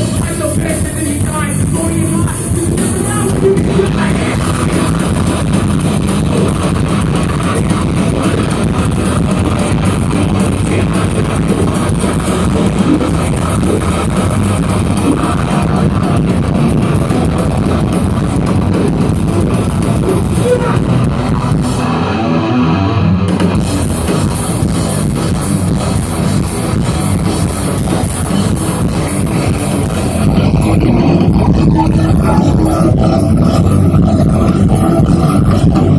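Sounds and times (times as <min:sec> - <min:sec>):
electric guitar: 0:00.0 - 0:35.9
rock band playing: 0:00.0 - 0:35.9.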